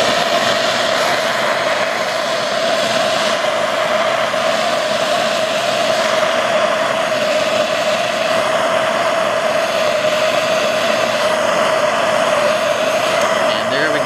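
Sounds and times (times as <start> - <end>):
propane torch hissing: 0.0 - 14.0.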